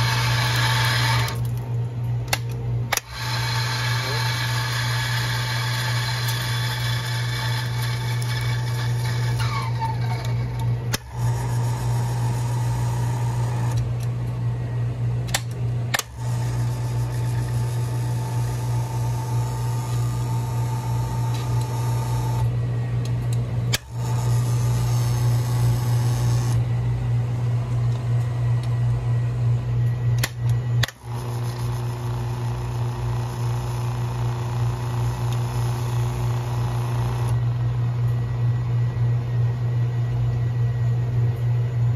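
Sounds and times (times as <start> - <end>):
grinder motor humming: 0.0 - 1.6, 2.3 - 14.4, 15.4 - 38.0.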